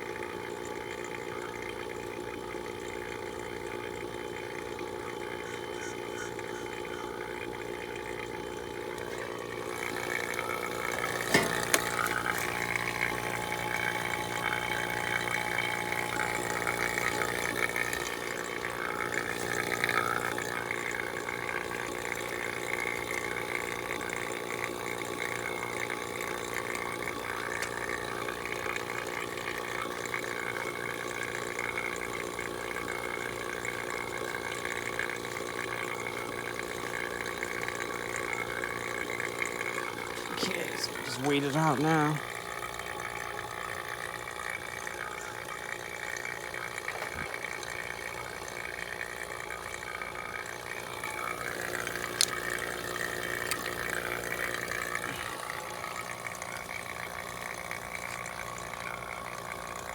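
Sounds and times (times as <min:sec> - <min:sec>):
machine humming: 0:00.0 - 0:59.9.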